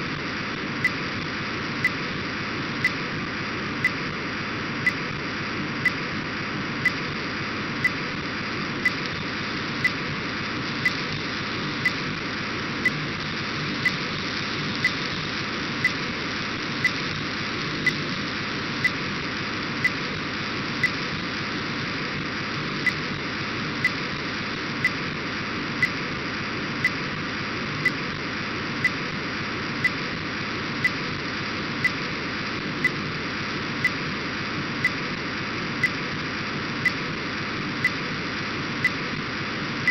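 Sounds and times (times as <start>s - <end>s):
radio data signal hiss: 0.0s - 39.9s.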